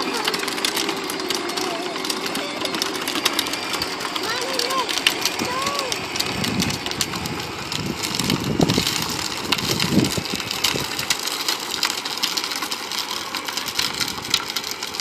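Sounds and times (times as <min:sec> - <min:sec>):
plastic wheels rolling on asphalt: 0:00.0 - 0:15.0.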